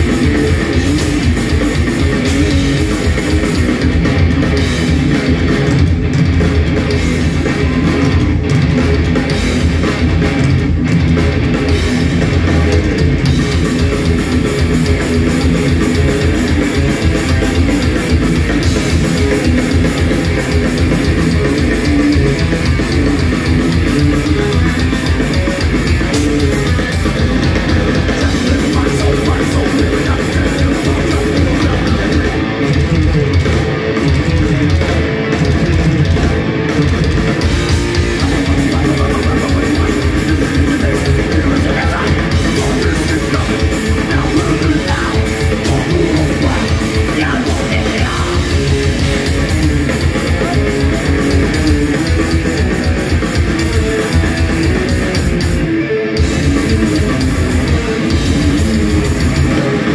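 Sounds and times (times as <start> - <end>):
bass guitar: 0.0 - 59.9
distorted electric guitars: 0.0 - 59.9
fast dense drumming: 0.0 - 59.9.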